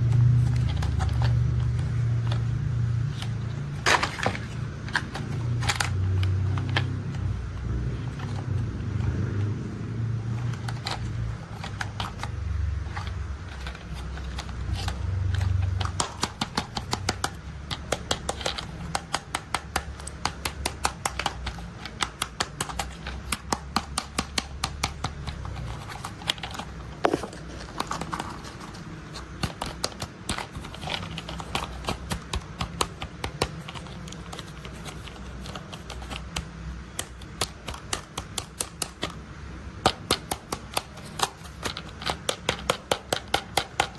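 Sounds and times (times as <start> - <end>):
plastic toy clicks and rattles: 0.2 - 9.0, 10.3 - 39.2, 39.8 - 43.9.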